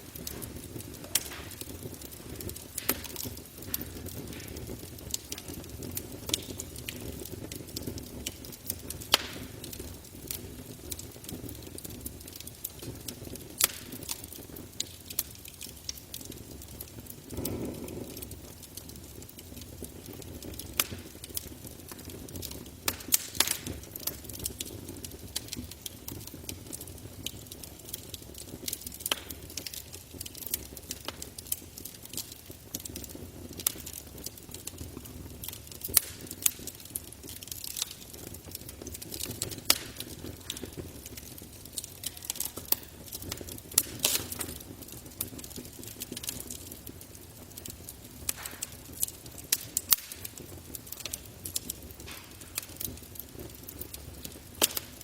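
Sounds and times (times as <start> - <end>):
campfire crackling and popping: 0.0 - 55.0
flame rushing: 0.0 - 55.0.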